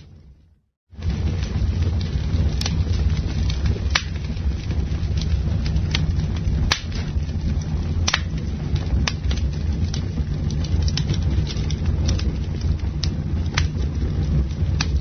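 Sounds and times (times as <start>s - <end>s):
burning wood crackling and popping: 0.0s - 15.0s
campfire rumbling: 0.0s - 15.0s.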